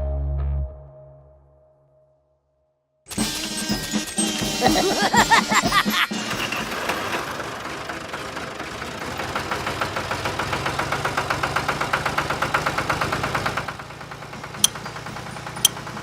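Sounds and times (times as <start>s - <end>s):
engine chugging: 3.1s - 16.0s.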